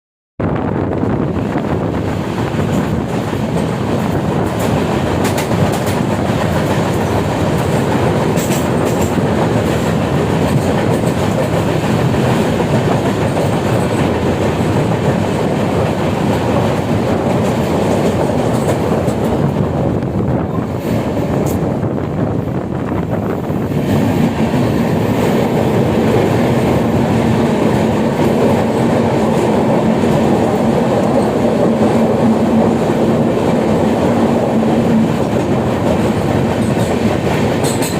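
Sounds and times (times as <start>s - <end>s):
train rumbling and rattling: 0.4s - 37.9s
train wheels clicking: 2.0s - 21.9s, 23.2s - 37.9s.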